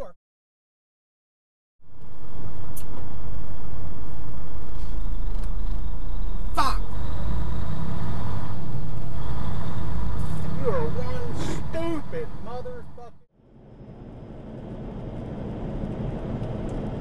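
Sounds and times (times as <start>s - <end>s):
truck engine and tyre rumble: 1.8s - 17.0s.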